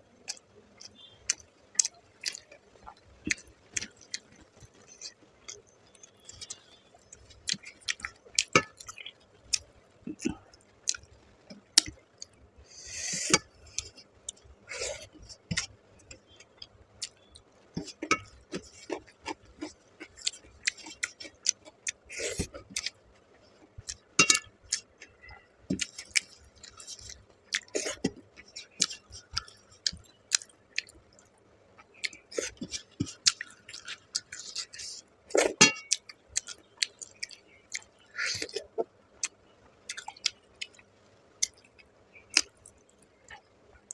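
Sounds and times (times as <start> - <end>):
chewing: 0.3 - 12.4, 13.1 - 43.9.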